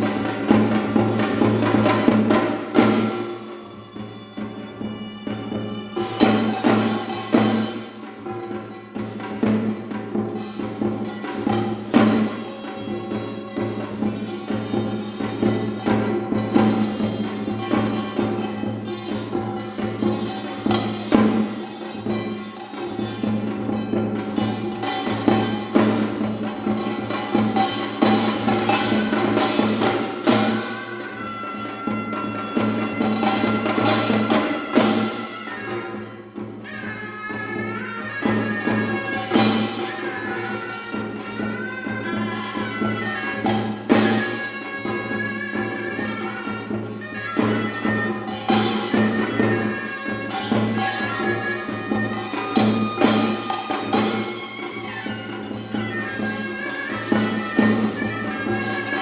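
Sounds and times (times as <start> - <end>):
high double-reed wind note: 0.0 - 8.3, 10.6 - 59.0
drum strokes: 0.0 - 59.0.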